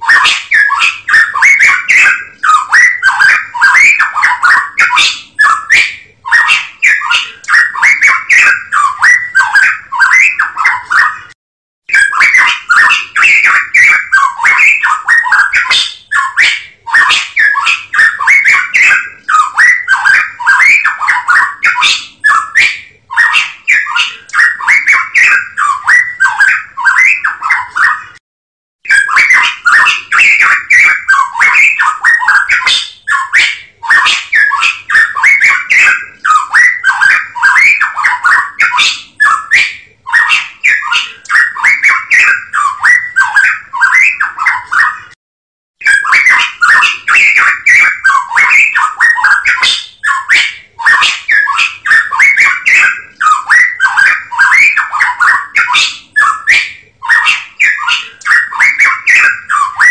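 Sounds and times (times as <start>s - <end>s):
songbird chattering song: 0.0s - 11.2s, 11.9s - 28.0s, 28.9s - 45.0s, 45.8s - 59.9s.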